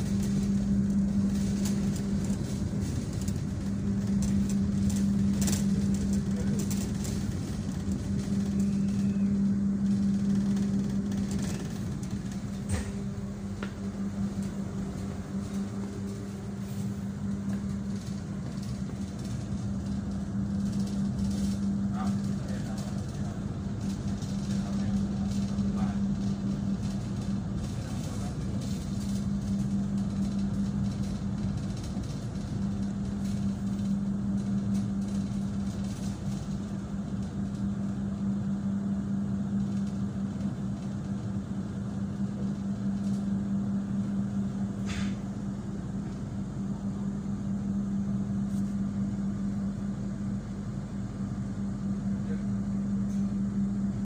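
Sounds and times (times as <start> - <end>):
steady low hum: 0.0 - 54.0
train rumbling: 0.0 - 54.0.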